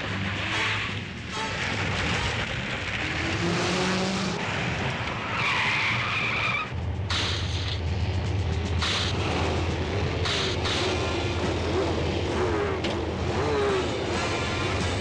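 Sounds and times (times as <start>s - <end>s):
high tyre squeal: 0.0s - 7.8s, 10.2s - 15.0s
low steady engine hum: 0.0s - 15.0s
tyres skidding on dirt: 0.0s - 15.0s
vehicle engines running: 0.0s - 15.0s.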